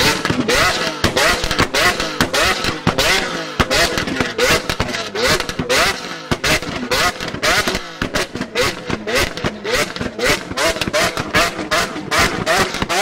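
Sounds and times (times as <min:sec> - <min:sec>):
exhaust cracks and pops: 0:00.0 - 0:13.0
sports car engine revving: 0:00.0 - 0:13.0.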